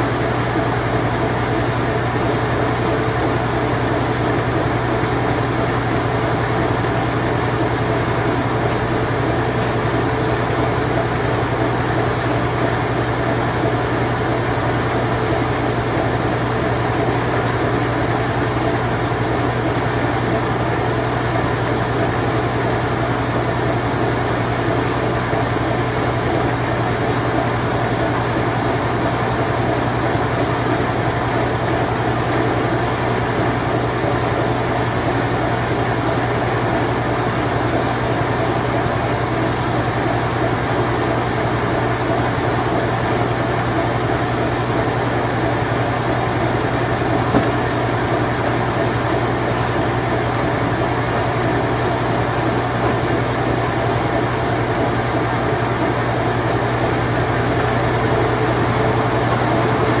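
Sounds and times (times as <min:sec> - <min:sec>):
washing machine spin cycle: 0:00.0 - 1:00.0.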